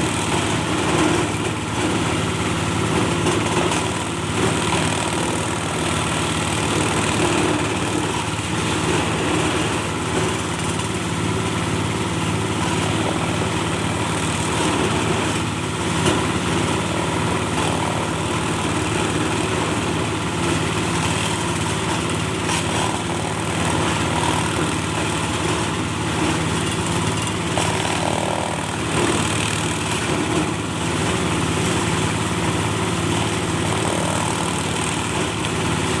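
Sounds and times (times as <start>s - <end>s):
grinding machine engine running: 0.0s - 36.0s.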